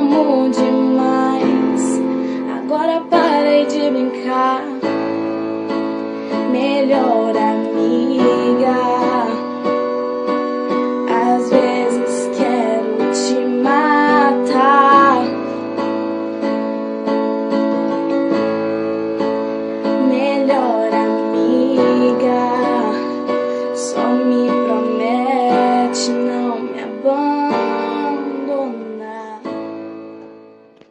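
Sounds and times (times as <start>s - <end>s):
woman singing wordless lines: 0.0s - 16.0s, 19.8s - 29.7s
pop song with piano and guitar: 0.0s - 30.9s.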